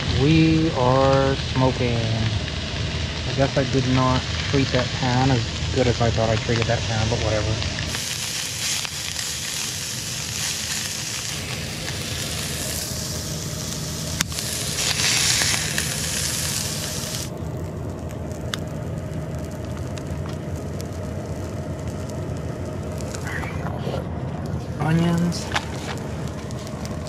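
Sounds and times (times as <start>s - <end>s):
patty sizzling in frying pan: 0.0s - 23.3s, 24.5s - 27.0s
steady low hum: 0.0s - 27.0s.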